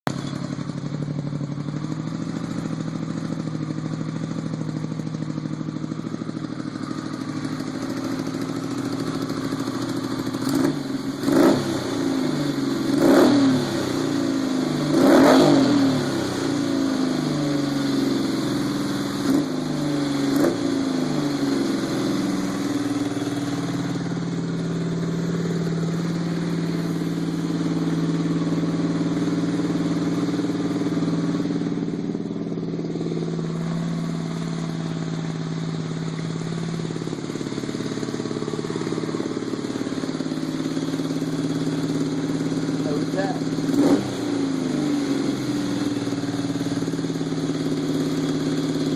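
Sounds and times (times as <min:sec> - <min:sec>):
motorcycle engine idling and revving: 0:00.0 - 0:48.9.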